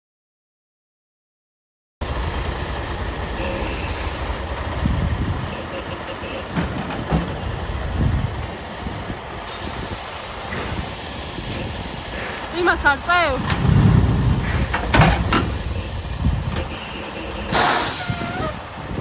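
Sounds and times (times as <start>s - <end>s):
diesel truck engine rumbling: 2.0s - 19.0s.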